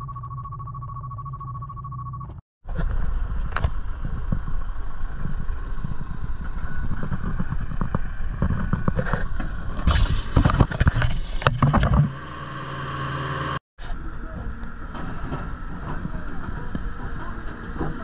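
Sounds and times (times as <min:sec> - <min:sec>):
construction machinery rumbling: 0:02.7 - 0:10.7, 0:11.5 - 0:18.0.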